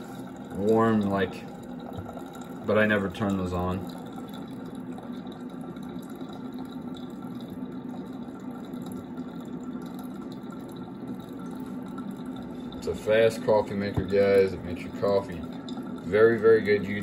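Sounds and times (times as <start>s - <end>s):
coffee trickling into glass pot: 0.0s - 17.0s.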